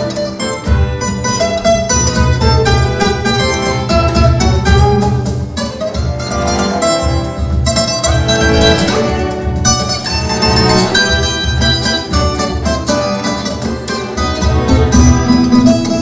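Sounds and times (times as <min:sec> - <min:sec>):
plucked string notes: 0:00.0 - 0:16.0
cello ensemble playing: 0:00.7 - 0:16.0.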